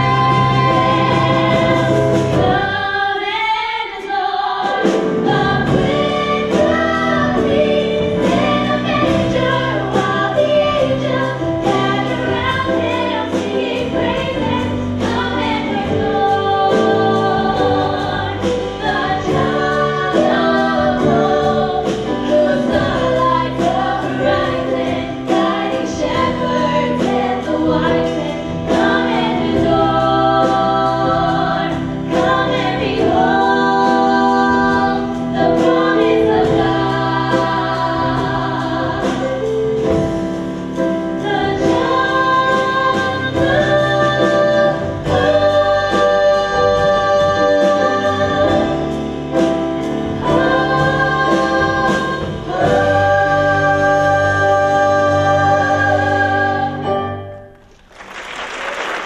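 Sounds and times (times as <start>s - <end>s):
live band playing: 0.0s - 3.1s, 4.5s - 58.1s
women singing in harmony: 0.0s - 40.1s, 40.8s - 57.3s.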